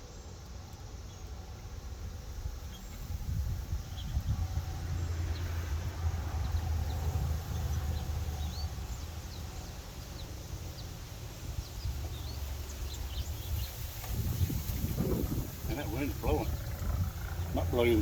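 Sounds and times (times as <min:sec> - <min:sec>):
wind buffeting microphone: 0:01.9 - 0:18.0.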